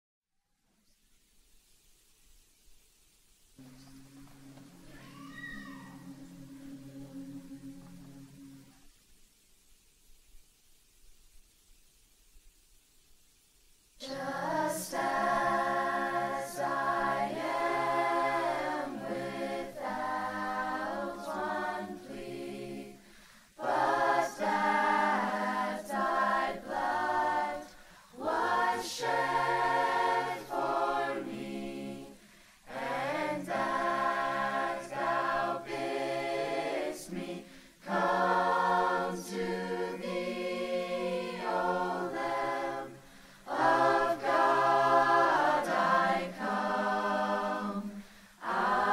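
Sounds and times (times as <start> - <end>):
choir singing in harmony: 3.6 - 8.9, 14.0 - 48.9.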